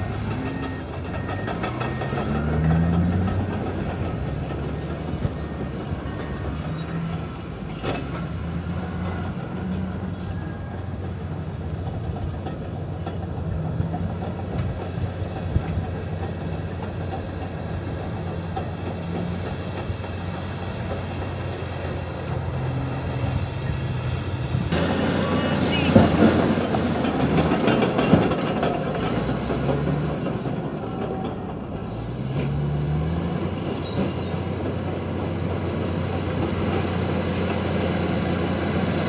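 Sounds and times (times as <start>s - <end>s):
diesel engine drone: 0.0s - 39.0s.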